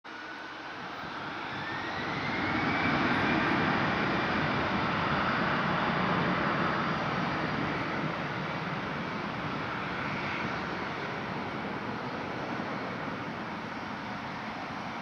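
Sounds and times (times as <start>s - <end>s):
jet engines spooling up: 0.1s - 15.0s.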